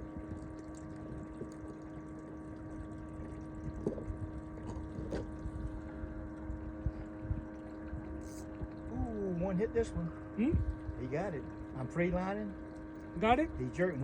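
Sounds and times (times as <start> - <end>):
small boat motor humming: 0.0 - 14.0.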